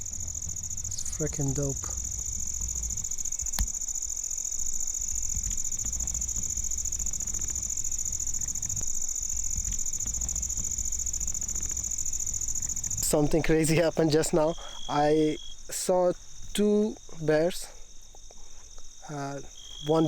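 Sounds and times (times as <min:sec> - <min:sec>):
insects chorus ringing: 0:00.0 - 0:20.0.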